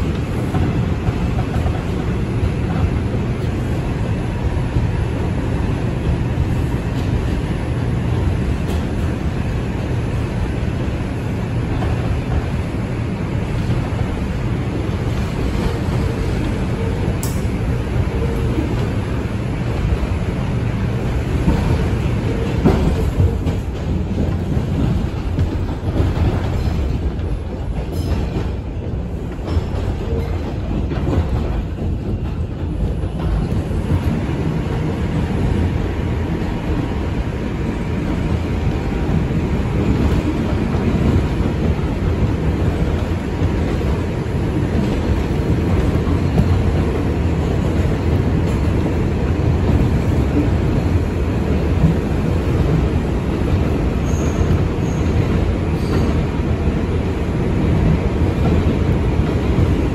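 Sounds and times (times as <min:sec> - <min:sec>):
subway wheels rumbling on rails: 0:00.0 - 0:59.9
train clatter: 0:00.0 - 0:59.9.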